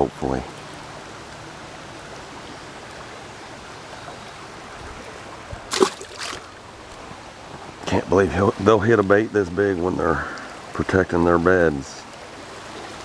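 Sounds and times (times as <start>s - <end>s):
mountain stream running: 0.0s - 13.0s.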